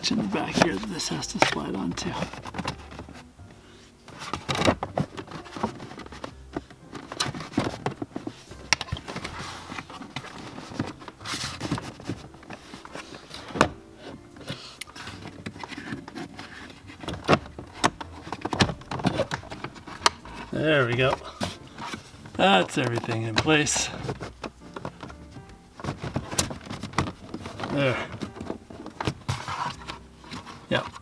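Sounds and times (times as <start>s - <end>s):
plastic knocks and clicks: 0.0s - 31.0s
plastic trim scraping and rustling: 0.0s - 31.0s.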